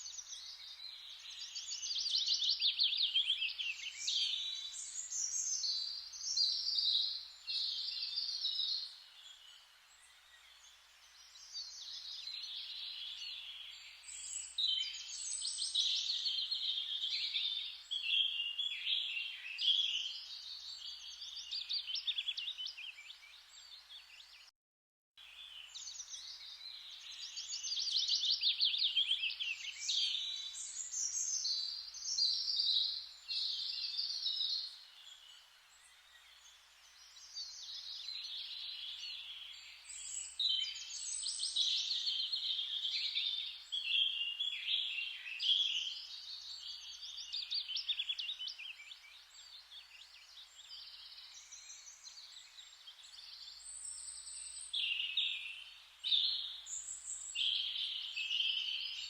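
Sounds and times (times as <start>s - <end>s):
songbirds trilling and chirping: 0.0s - 24.5s, 25.2s - 59.0s.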